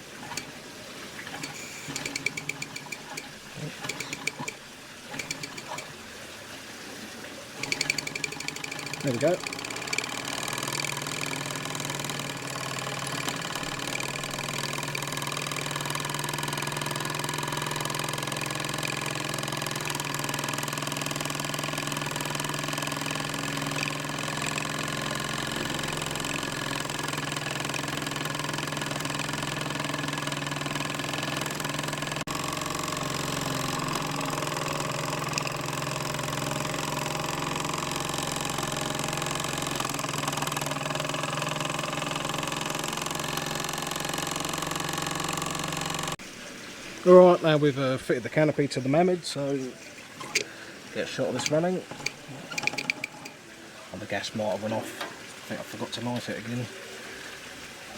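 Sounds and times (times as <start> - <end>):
model steam engine chattering: 1.2 - 6.0, 7.6 - 46.2, 48.9 - 53.4.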